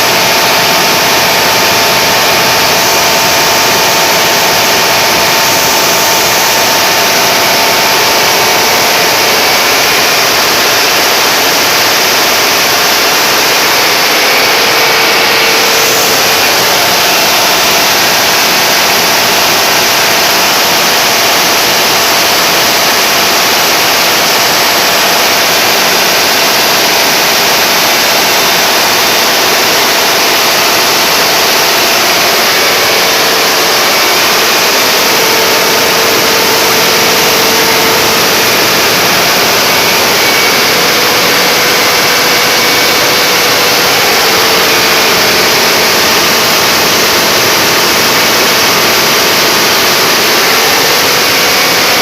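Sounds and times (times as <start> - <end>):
generator engine roaring: 0.0 - 52.0.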